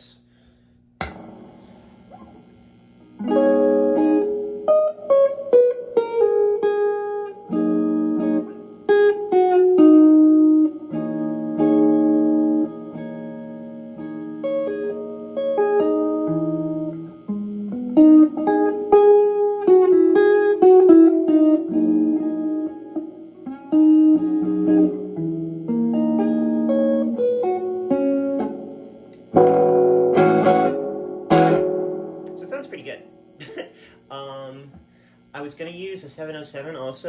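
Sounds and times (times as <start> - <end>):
electric guitar playing: 1.0 - 35.6.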